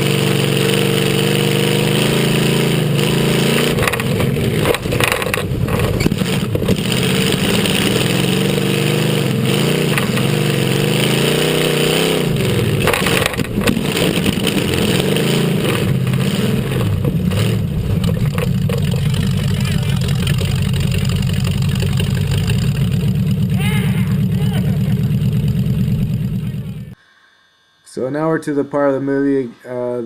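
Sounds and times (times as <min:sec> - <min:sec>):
truck engine running hard: 0:00.0 - 0:27.0.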